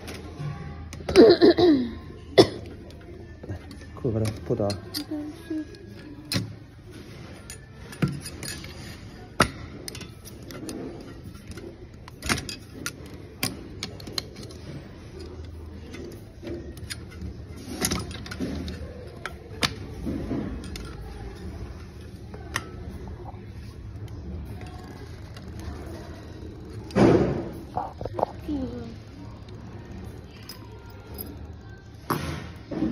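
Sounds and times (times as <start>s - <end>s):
metal parts clicking and clinking: 2.6s - 32.8s.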